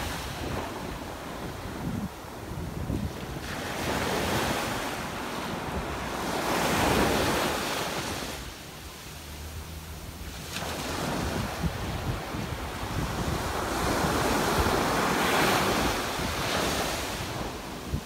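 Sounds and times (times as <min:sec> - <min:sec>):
wind rumble on microphone: 0:00.0 - 0:08.8, 0:09.4 - 0:18.0
surf washing up beach: 0:00.0 - 0:18.0.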